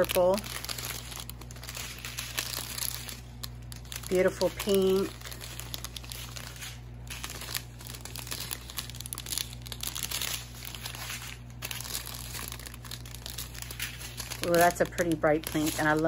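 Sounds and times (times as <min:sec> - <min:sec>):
plastic bags crinkling: 0:00.0 - 0:16.0
steady low hum: 0:00.0 - 0:16.0.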